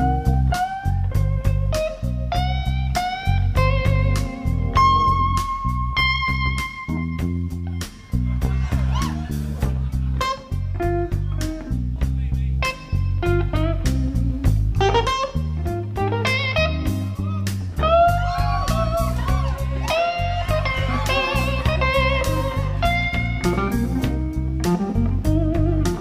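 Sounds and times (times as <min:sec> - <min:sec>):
electric guitar lead lines: 0:00.0 - 0:08.2, 0:12.6 - 0:26.0
live blues band: 0:00.0 - 0:26.0.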